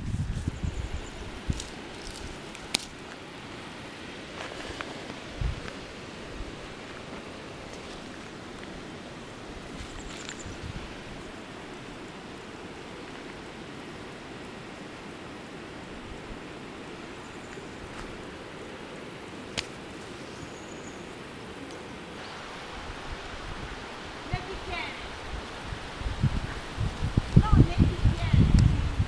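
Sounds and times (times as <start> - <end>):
river and waterfall rushing: 1.0 - 29.0.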